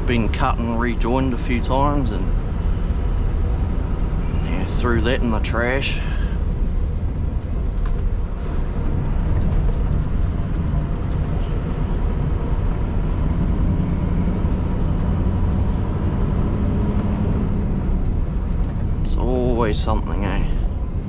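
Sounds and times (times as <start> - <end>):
diesel truck engine rumbling: 0.0 - 21.0.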